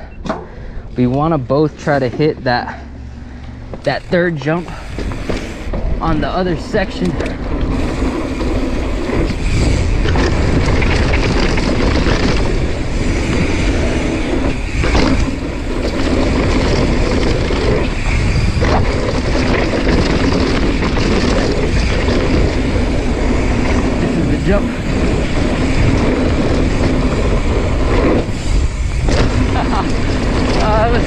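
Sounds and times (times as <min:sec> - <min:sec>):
bike tyres on dirt: 0:00.6 - 0:31.0
wind on microphone: 0:04.6 - 0:31.0.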